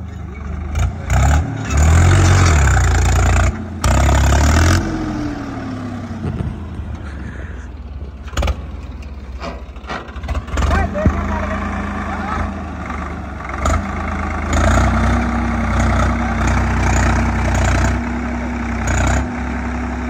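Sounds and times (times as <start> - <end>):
tractor diesel engine revving: 0.0 - 20.0.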